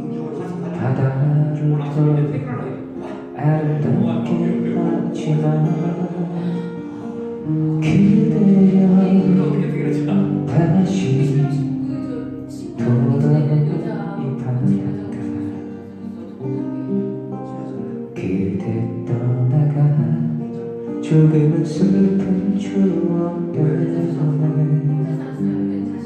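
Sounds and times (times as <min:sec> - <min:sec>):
acoustic guitar strumming: 0:00.0 - 0:26.0
person singing a slow ballad: 0:00.0 - 0:26.0.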